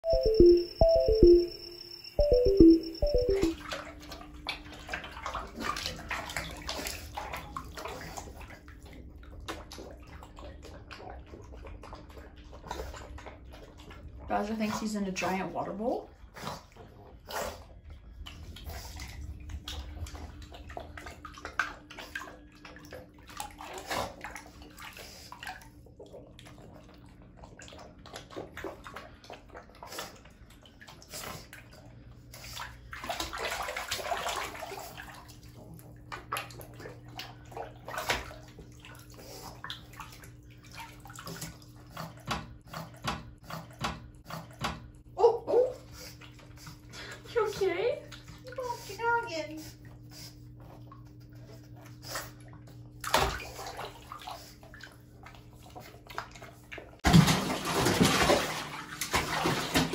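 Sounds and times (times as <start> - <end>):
bathwater sloshing and splashing: 2.2 - 45.1, 45.8 - 59.9.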